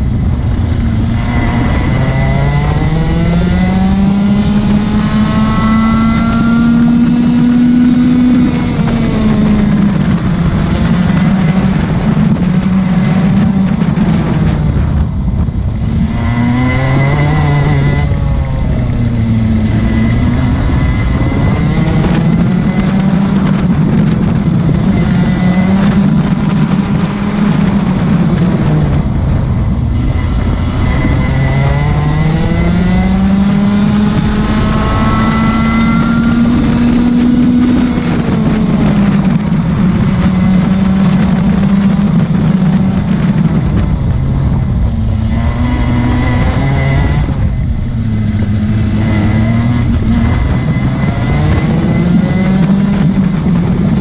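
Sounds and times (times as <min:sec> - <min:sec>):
kart engine accelerating: 0:00.0 - 0:54.0.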